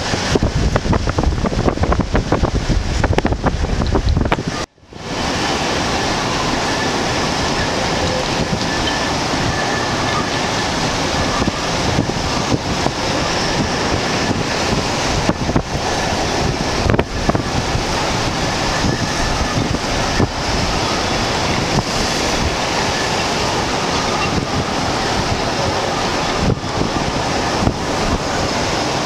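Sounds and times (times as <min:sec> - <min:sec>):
waves breaking against quay: 0:00.0 - 0:29.0
wind buffeting microphone: 0:00.0 - 0:29.0.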